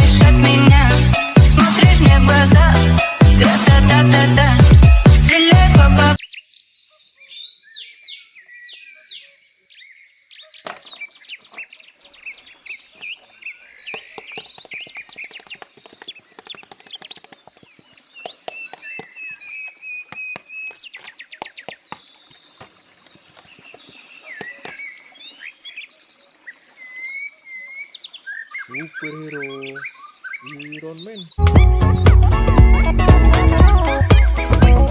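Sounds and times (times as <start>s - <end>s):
songbirds chirping and trilling: 6.1s - 34.9s.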